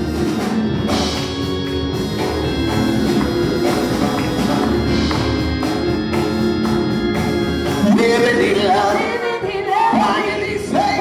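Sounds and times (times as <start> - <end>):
gospel band music: 0.0 - 11.0.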